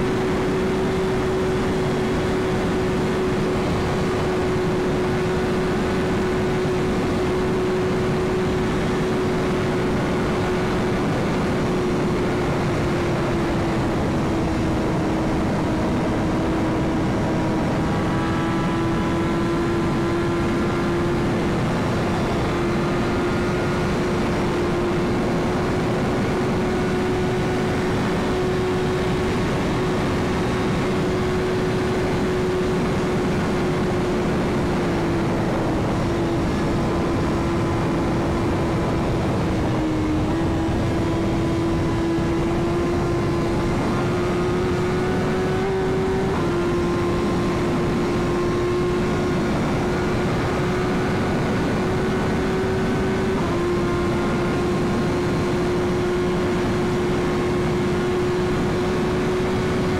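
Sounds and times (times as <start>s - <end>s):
wind rush: 0.0s - 55.7s
motorcycle engine cruising: 0.0s - 59.9s.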